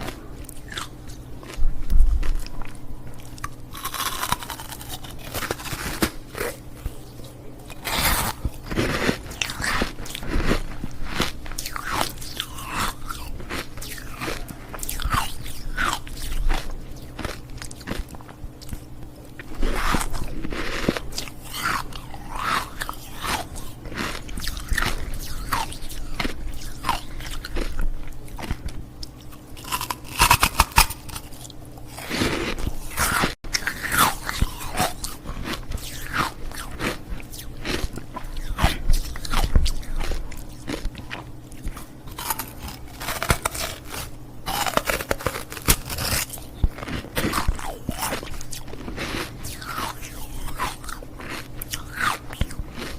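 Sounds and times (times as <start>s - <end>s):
ice cubes crunching between teeth: 2.2s - 6.6s, 7.7s - 18.8s, 19.4s - 52.9s.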